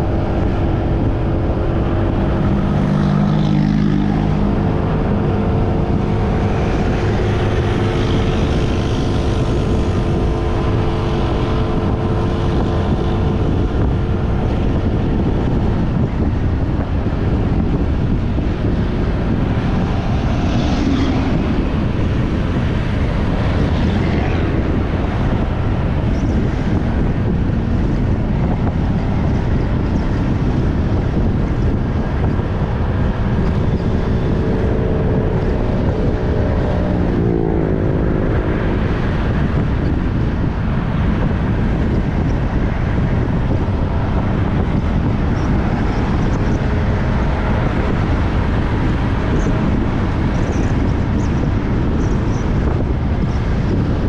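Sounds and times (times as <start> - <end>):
road noise: 0.0 - 54.0
wind on microphone: 0.0 - 54.0.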